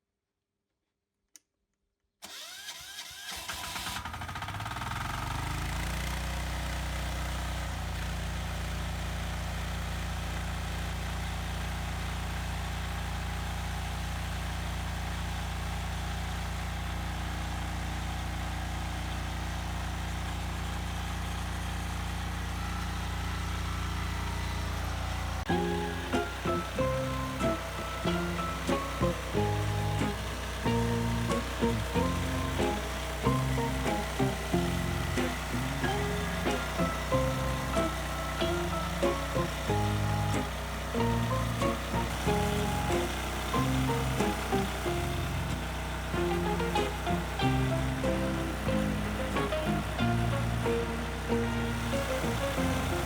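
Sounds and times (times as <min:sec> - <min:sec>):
tractor engine starting and running: 0:02.2 - 0:53.0.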